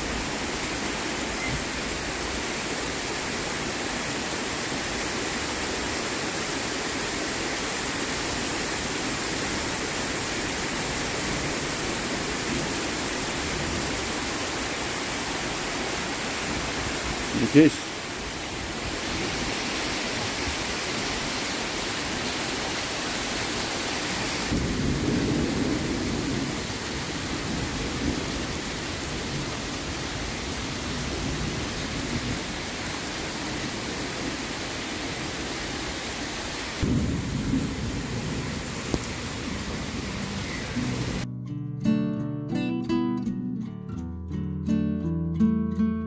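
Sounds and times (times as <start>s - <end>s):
heavy rain pouring: 0.0s - 41.3s.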